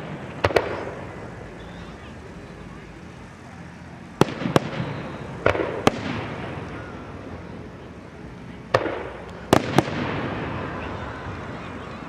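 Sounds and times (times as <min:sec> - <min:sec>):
fireworks bangs: 0:00.0 - 0:02.2, 0:04.0 - 0:12.0.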